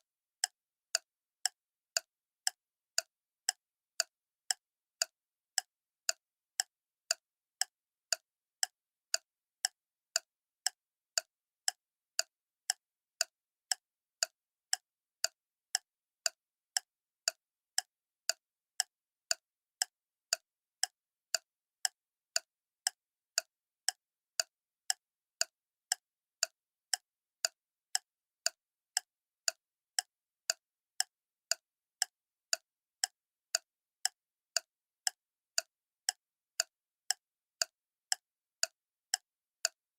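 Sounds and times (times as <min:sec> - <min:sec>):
clock ticking: 0:00.4 - 0:39.8.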